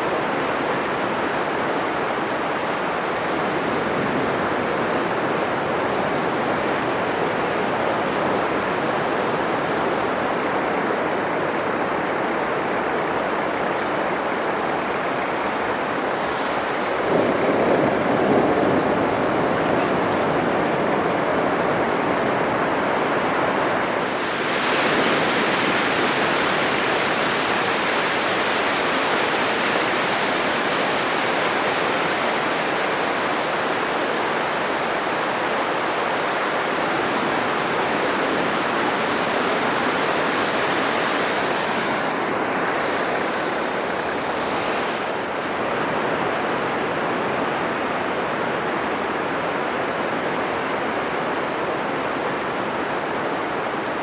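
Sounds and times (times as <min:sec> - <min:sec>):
surf breaking on sandy beach: 0:00.0 - 0:50.0.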